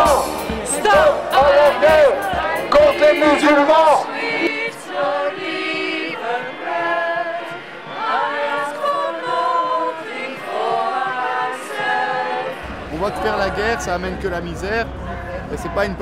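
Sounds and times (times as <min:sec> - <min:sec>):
women singing together: 0:00.0 - 0:14.2.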